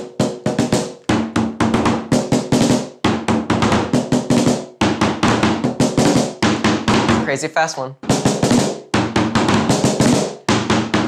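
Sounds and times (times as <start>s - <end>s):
snare drums struck rapidly: 0.0s - 11.0s.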